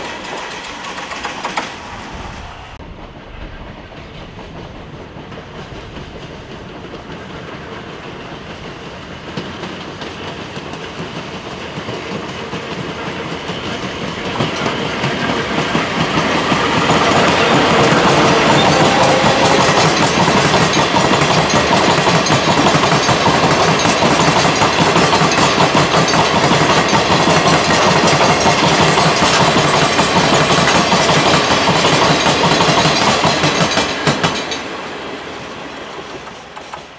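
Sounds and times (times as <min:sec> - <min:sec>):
train wheels clattering: 0:00.0 - 0:02.1, 0:03.0 - 0:36.9.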